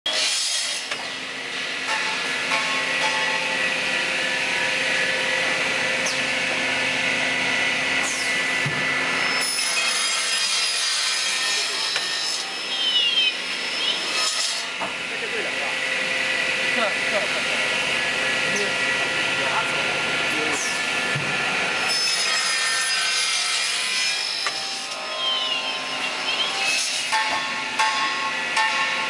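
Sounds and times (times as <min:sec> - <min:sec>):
circular saw cutting metal: 0:00.1 - 0:29.0.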